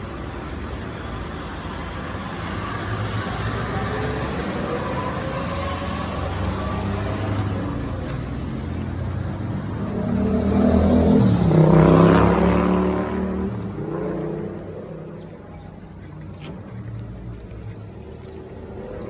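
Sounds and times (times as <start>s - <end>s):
vehicle driving past: 0.2s - 19.0s.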